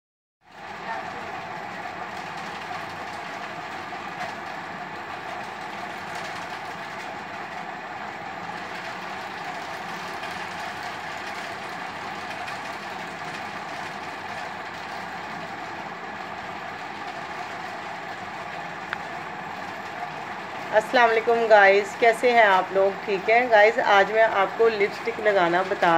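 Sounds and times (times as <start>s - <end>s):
steady background noise: 0.5s - 25.9s.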